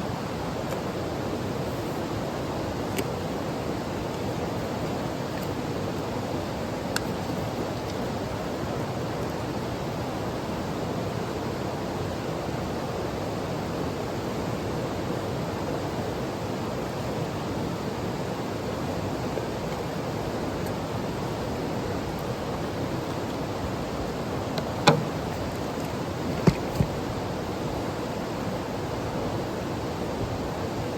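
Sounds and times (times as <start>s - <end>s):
mountain stream rushing: 0.0s - 30.9s.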